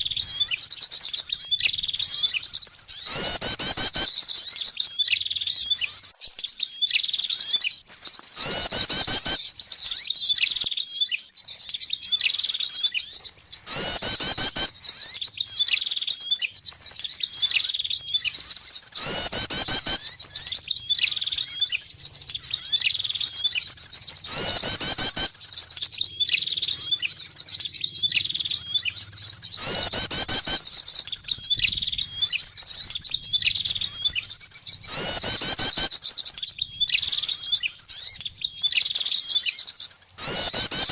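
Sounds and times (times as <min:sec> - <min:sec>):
loud harsh bird call: 0:00.0 - 0:40.9
small songbirds chirping rapidly: 0:00.0 - 0:40.9.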